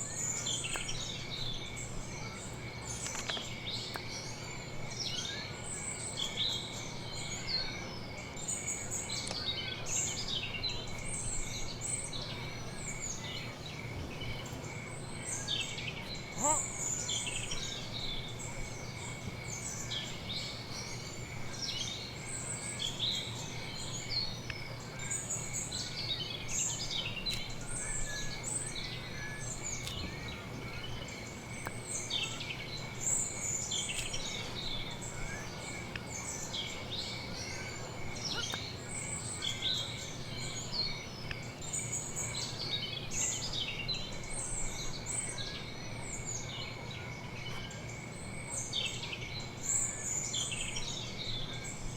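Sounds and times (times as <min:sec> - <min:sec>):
small birds chirping and twittering: 0:00.0 - 0:51.9.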